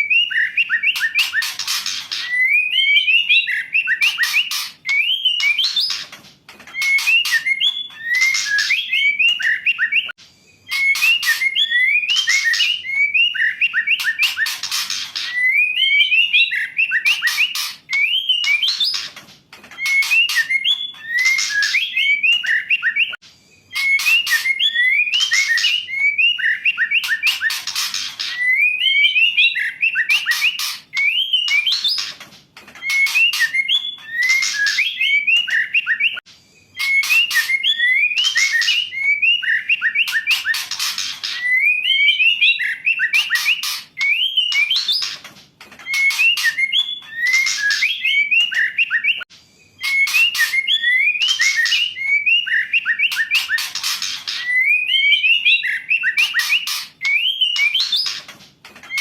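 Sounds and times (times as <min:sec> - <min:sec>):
bird calling with clicks and whistles: 0:00.0 - 0:59.0.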